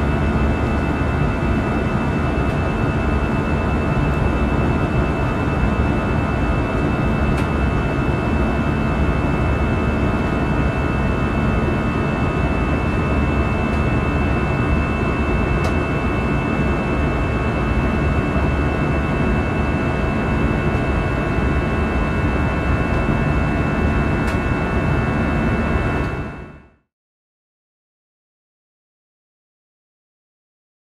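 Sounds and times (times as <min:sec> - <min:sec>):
fan buzzsaw tones: 0:00.0 - 0:26.6
engine and airflow roar: 0:00.0 - 0:26.8.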